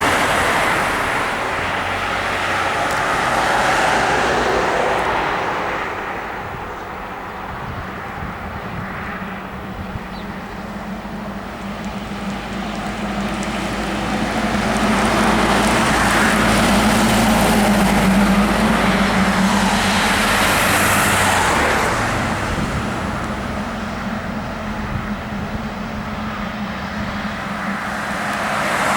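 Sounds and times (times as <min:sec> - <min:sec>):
garbage truck driving past: 0:00.0 - 0:05.8, 0:10.8 - 0:28.9.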